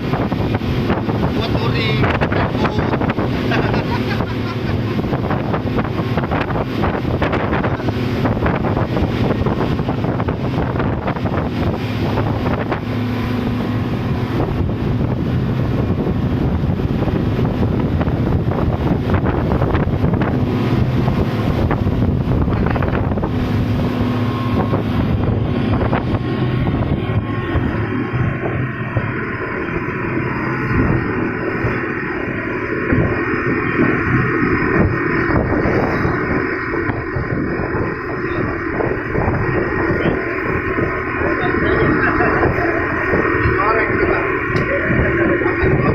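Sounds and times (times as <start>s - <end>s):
boat engine running: 0.0s - 45.9s
wind buffeting microphone: 0.0s - 45.9s.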